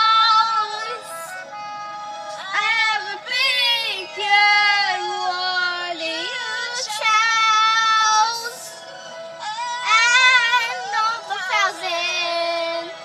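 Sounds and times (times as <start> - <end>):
girl singing pop ballad: 0.0 - 1.4, 2.3 - 8.7, 9.4 - 13.0.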